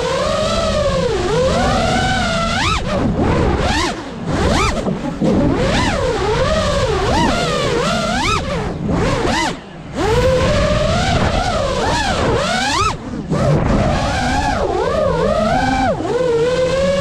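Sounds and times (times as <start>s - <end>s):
quadcopter propellers whining: 0.0s - 17.0s.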